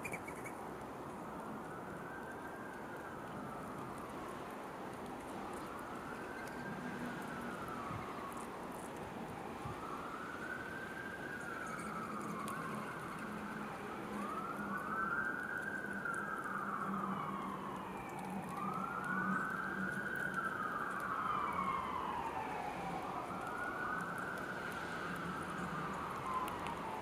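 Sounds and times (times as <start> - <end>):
emergency siren wailing: 1.2 - 27.0.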